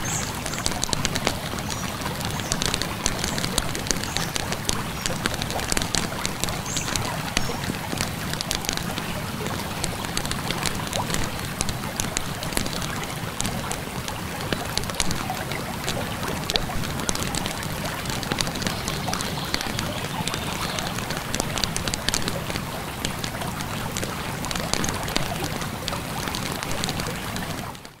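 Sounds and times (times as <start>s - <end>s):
campfire crackling: 0.0s - 27.8s
river flowing: 0.0s - 28.0s.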